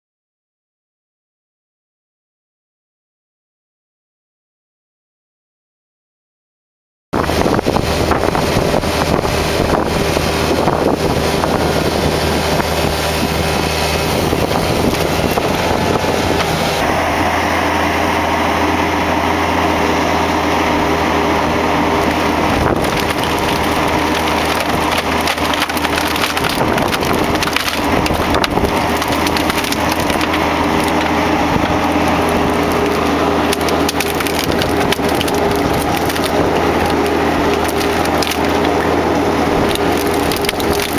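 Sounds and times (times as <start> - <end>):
diesel engine under load: 7.2 - 40.9
wood cracking and splintering: 7.4 - 40.9.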